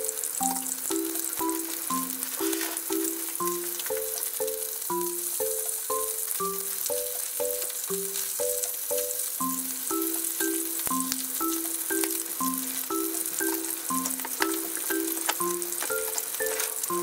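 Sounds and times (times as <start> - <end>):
background music of short chords: 0.0 - 17.0
fish sizzling in hot oil: 0.0 - 17.0.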